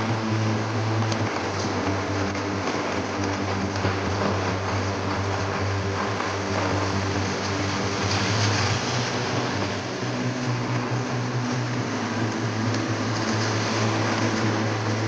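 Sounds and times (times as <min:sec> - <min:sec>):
low mechanical hum: 0:00.0 - 0:15.0
rain falling: 0:00.0 - 0:15.0.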